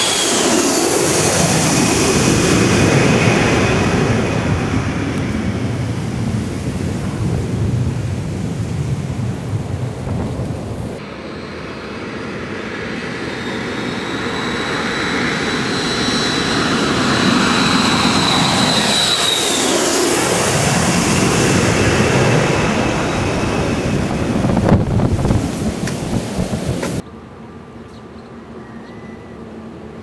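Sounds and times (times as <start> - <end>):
aircraft rushing overhead: 0.0 - 27.8.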